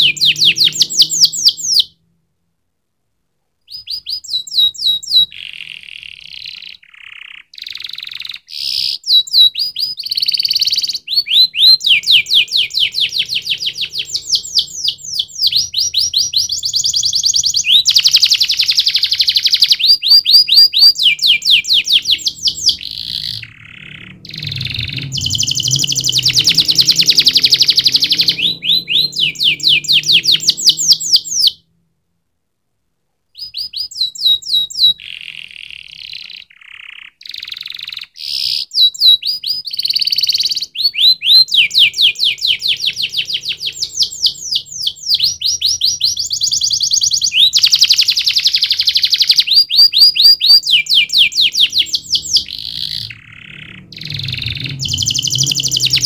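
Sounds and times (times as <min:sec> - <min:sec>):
canary singing trills: 0:00.0 - 0:02.0, 0:03.7 - 0:31.6, 0:33.4 - 0:56.0.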